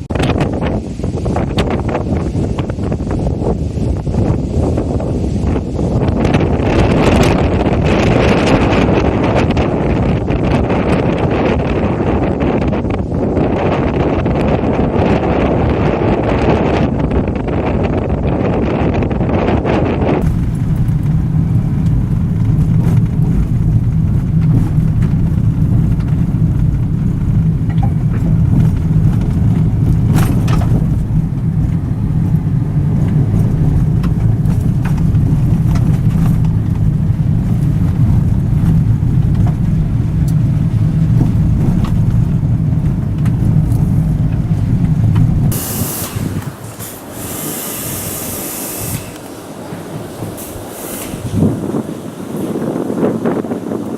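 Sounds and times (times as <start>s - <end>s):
loud steady low rumble: 0.0s - 53.9s.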